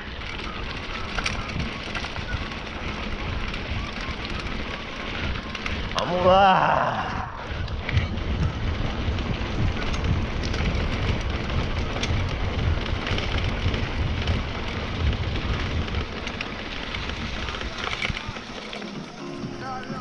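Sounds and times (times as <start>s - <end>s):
bike tyres rolling on gravel: 0.0s - 20.0s
wind buffeting microphone: 0.0s - 20.0s.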